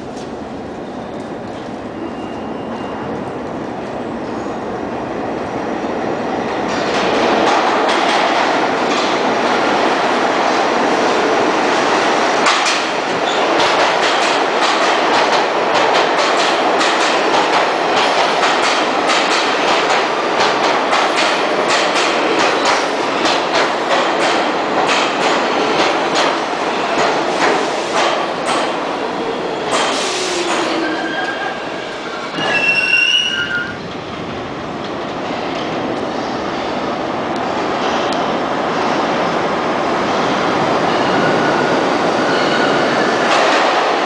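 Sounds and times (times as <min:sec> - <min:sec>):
subway train wheels rumbling: 0:00.0 - 0:44.0.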